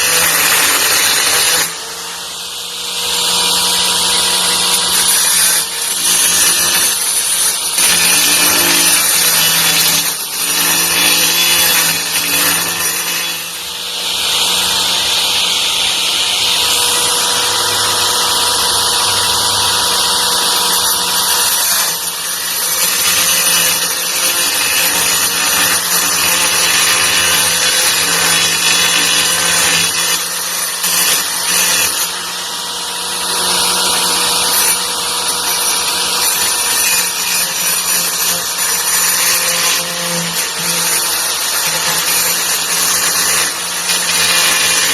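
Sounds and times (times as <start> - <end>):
angle grinder whining: 0.0 - 44.9.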